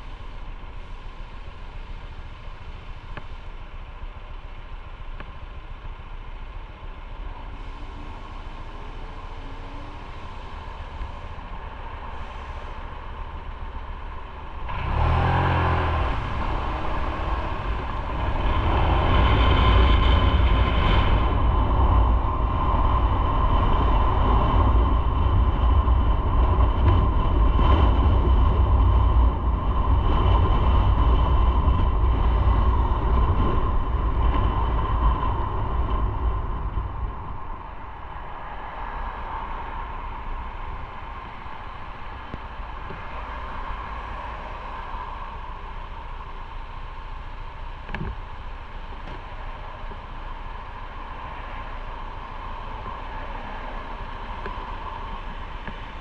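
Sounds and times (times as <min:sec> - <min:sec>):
motorcycle engine running: 0:00.0 - 0:37.9, 0:44.6 - 0:53.1
wind and road noise: 0:00.0 - 0:56.0.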